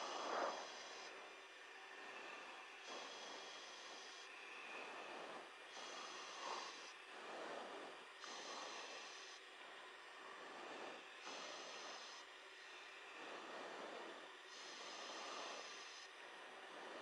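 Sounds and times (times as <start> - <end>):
breath noise over intercom: 0.0 - 1.2, 2.0 - 9.5, 10.4 - 16.1.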